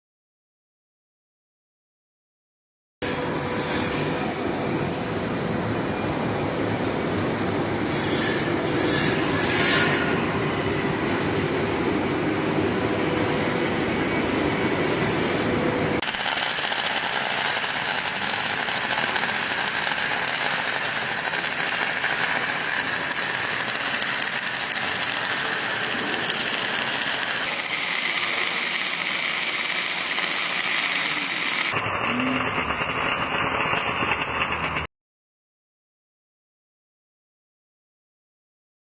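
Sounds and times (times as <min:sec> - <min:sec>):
arc welding noise: 0:03.0 - 0:34.9.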